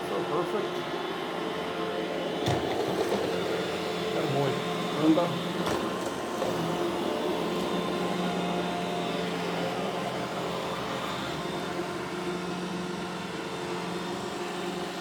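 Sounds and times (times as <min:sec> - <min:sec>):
robot vacuum humming: 0:00.0 - 0:15.0.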